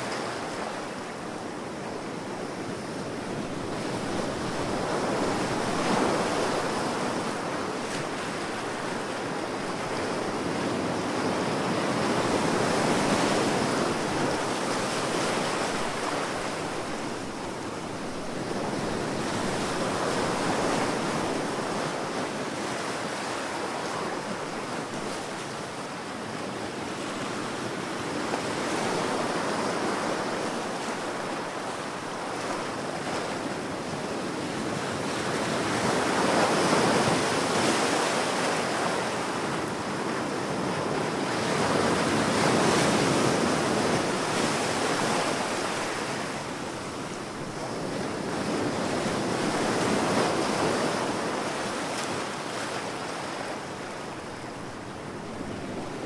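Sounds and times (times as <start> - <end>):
waves breaking and washing in: 0.0 - 56.0.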